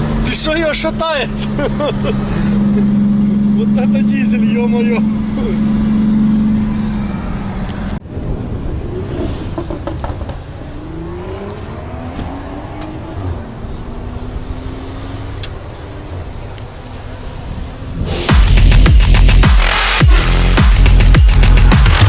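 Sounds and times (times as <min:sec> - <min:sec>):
car engine accelerating: 0:00.0 - 0:22.0
car engine droning: 0:00.0 - 0:22.0.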